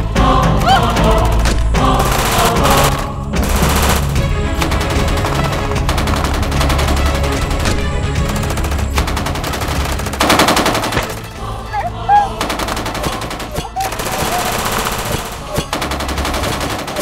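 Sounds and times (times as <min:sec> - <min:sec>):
music: 0:00.0 - 0:17.0
rapid automatic gunfire: 0:02.0 - 0:11.4, 0:12.4 - 0:17.0.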